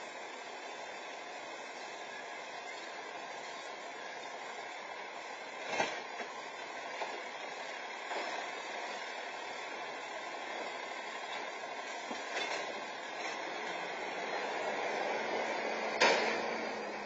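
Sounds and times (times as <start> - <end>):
garbage truck engine running: 0.0 - 17.0.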